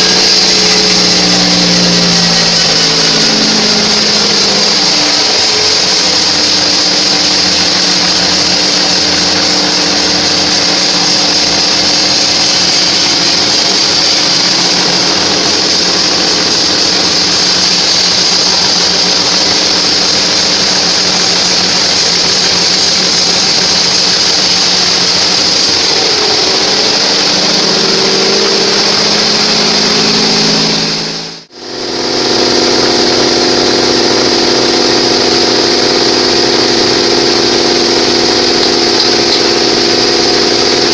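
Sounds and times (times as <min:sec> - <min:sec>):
high-pitched saw blade noise: 0:00.0 - 0:40.9
motor drone: 0:00.0 - 0:40.9.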